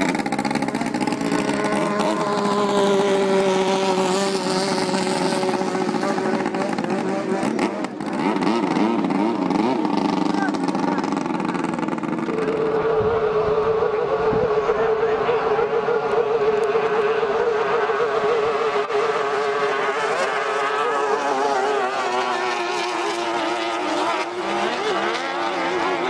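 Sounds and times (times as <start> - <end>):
speedboat engine at high revs: 0.0 - 26.0.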